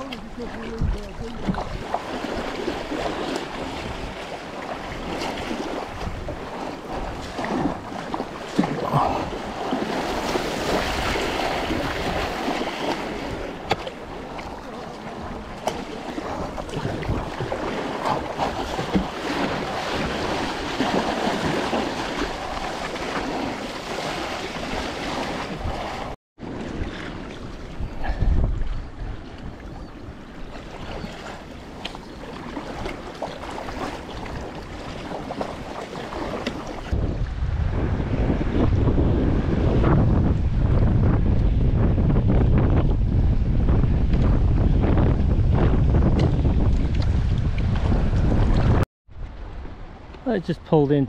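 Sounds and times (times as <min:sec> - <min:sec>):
water rushing and splashing: 0:00.0 - 0:40.3, 0:45.5 - 0:51.0
wind buffeting microphone: 0:00.0 - 0:50.2.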